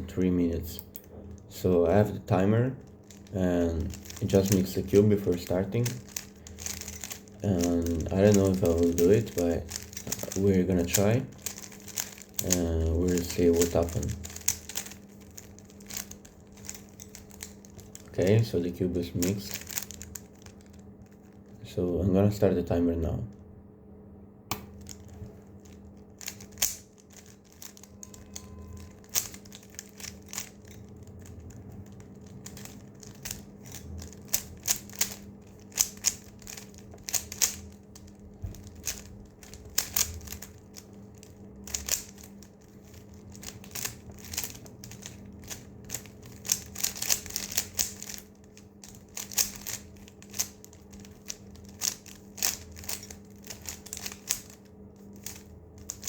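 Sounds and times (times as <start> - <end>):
steady low hum: 0.0 - 56.0
puzzle cube plastic clicks: 2.8 - 21.6, 24.5 - 56.0.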